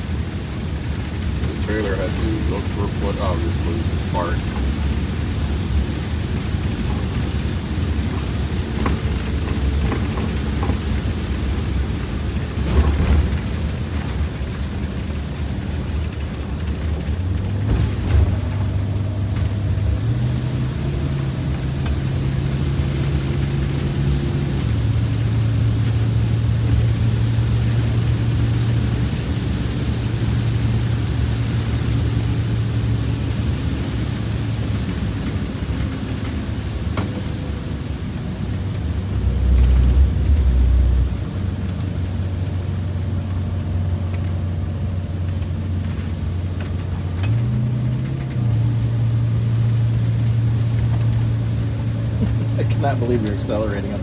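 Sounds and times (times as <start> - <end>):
diesel bus engine: 0.0 - 54.0
road noise: 0.0 - 54.0.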